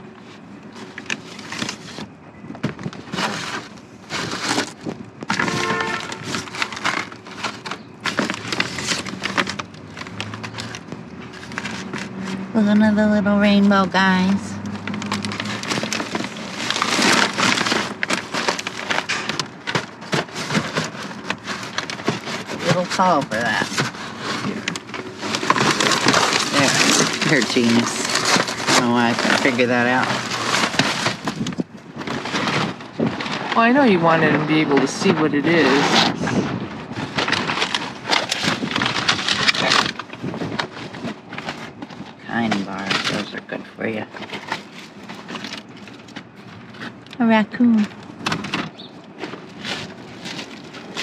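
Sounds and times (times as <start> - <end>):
plastic bags rustling: 0.0 - 51.0
snack packets crinkling: 2.8 - 12.5, 13.4 - 51.0.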